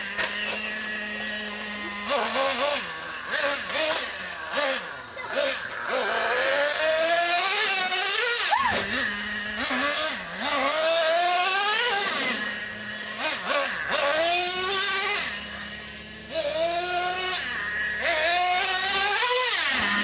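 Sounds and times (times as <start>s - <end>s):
nitro engine revving: 0.0s - 20.0s.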